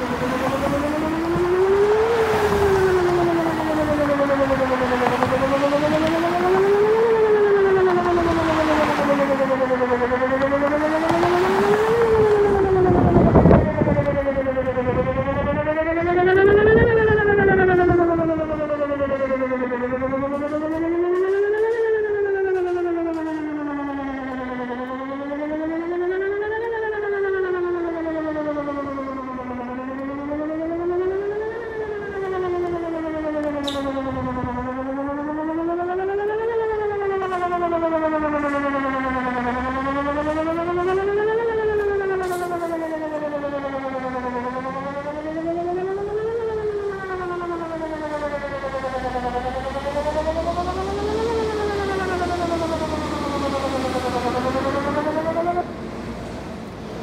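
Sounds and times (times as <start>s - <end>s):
outdoor warning siren wailing: 0.0s - 57.0s.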